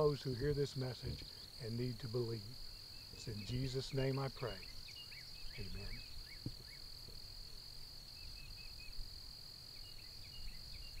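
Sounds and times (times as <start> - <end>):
bird chirps: 0.0 - 7.2, 8.1 - 9.0, 9.7 - 11.0
insect high-pitched trill: 0.0 - 11.0.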